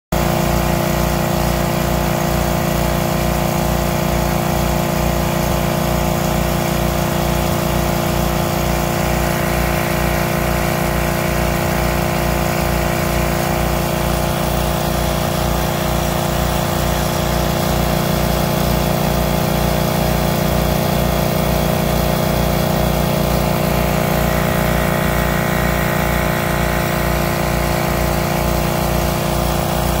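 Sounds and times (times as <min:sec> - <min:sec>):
nozzles spraying mist: 0:00.2 - 0:30.0
small engine humming: 0:00.2 - 0:30.0.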